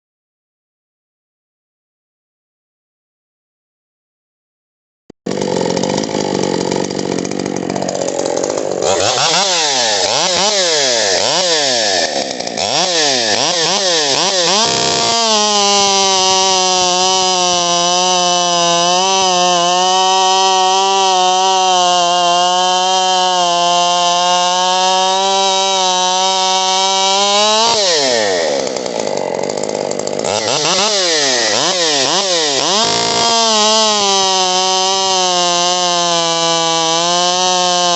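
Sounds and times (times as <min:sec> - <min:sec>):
chainsaw revving: 0:05.3 - 0:37.9.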